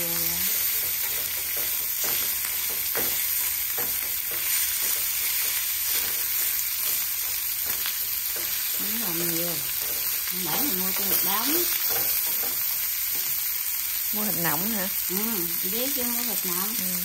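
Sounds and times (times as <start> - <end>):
pork sizzling in hot oil: 0.0 - 17.0
chopsticks tapping and scraping pan: 0.4 - 15.0.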